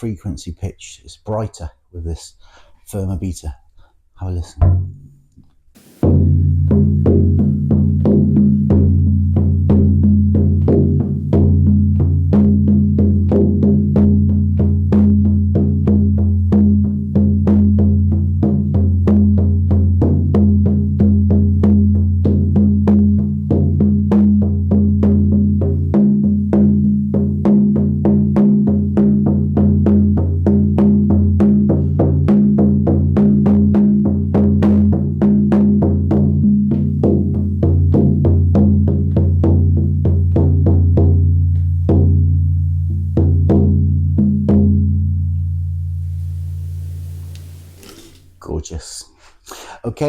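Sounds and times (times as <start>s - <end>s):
frame drum struck with beater: 4.5s - 5.2s, 5.8s - 48.4s.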